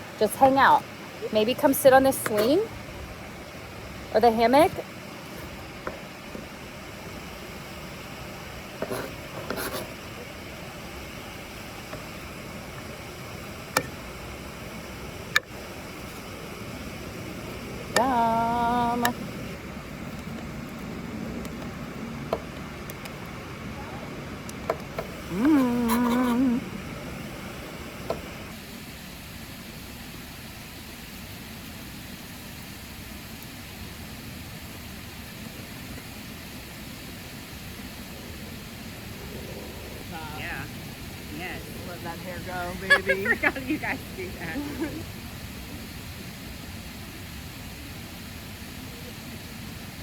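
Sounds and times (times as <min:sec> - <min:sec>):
waterfall rushing: 0:00.0 - 0:32.5, 0:33.2 - 0:50.0.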